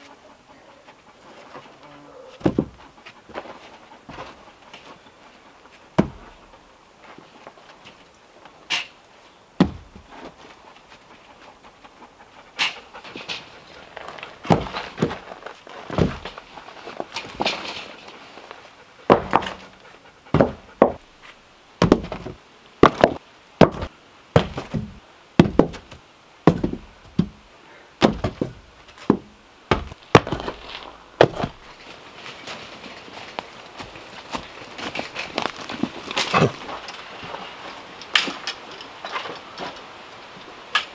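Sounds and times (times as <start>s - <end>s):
wooden log rounds clunking: 0.8s - 8.1s, 9.6s - 40.9s.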